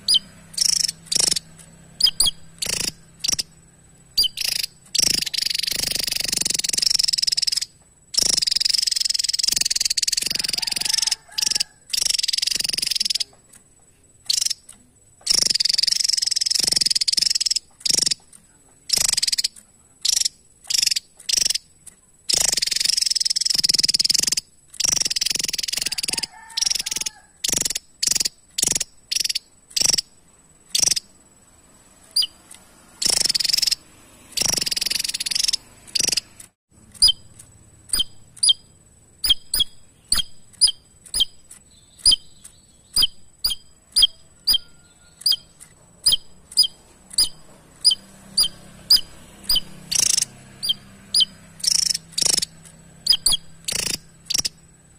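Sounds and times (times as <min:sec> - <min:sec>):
sharp high bird chips: 0:00.0 - 0:31.3, 0:32.0 - 0:54.7
bird singing buzzy phrases: 0:00.0 - 0:54.9.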